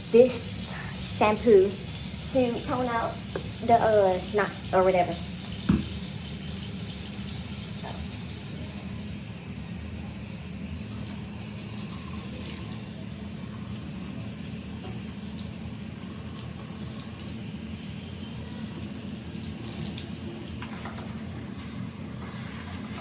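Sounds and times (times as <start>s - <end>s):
tap water running into sink: 1.2s - 8.9s, 10.0s - 23.0s.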